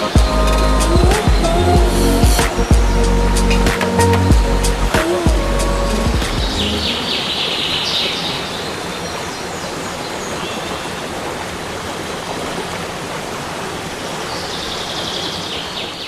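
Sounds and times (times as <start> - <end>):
waterfall rushing into pool: 0.0 - 16.0.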